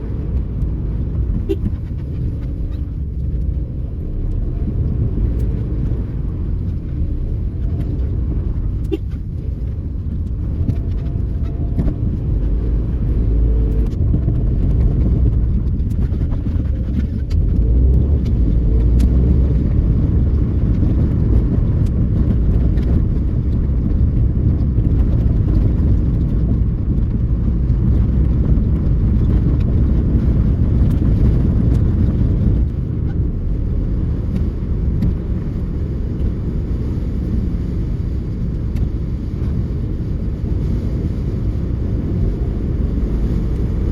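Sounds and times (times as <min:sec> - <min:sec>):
car engine rumbling: 0:00.0 - 0:43.9.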